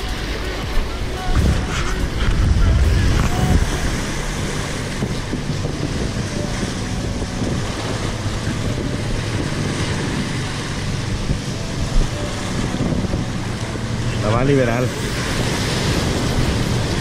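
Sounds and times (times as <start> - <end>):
sea waves: 0.0 - 17.0
wind on microphone: 0.0 - 17.0.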